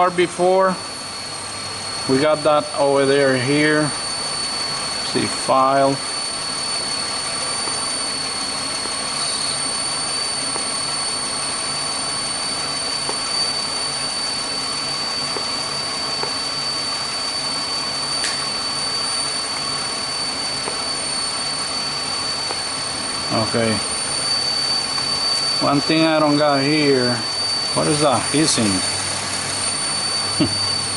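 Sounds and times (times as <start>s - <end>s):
high whine: 0.0s - 30.9s.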